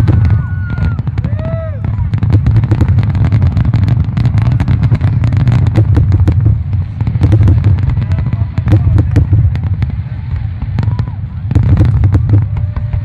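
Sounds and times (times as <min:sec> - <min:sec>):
deep booming rumble: 0:00.0 - 0:13.0
fireworks cracking: 0:00.0 - 0:13.0.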